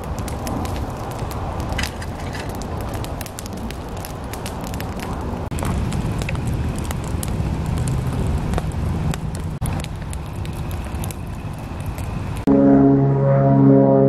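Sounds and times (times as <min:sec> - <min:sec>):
fire crackling and popping: 0:00.0 - 0:12.5
low rumble of stove fire: 0:00.0 - 0:12.5.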